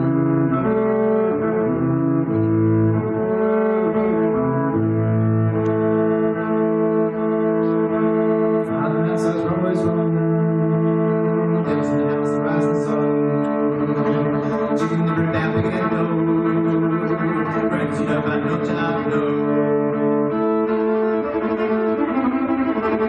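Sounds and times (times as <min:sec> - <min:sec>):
bowed electric violin: 0:00.0 - 0:23.0
low sustained bass: 0:00.0 - 0:23.0.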